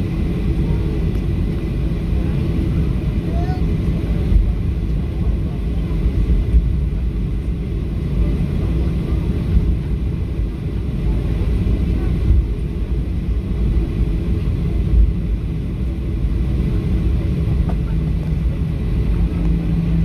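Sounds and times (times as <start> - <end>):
jet engine low rumble: 0.0 - 20.0.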